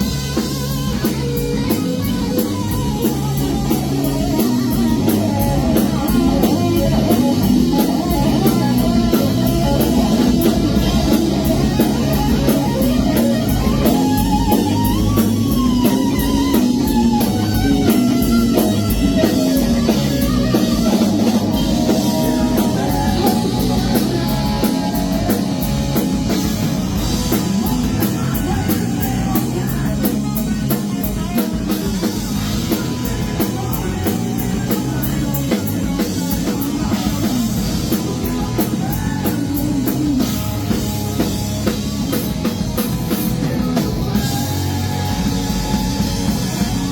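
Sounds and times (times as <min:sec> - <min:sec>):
drum kit: 0:00.0 - 0:46.9
electric guitar: 0:00.0 - 0:46.9.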